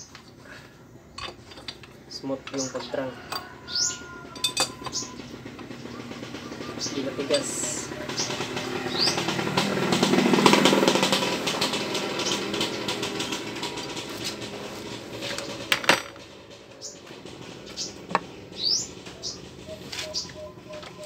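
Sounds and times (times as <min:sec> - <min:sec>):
engine mechanical clatter: 0:01.0 - 0:21.0.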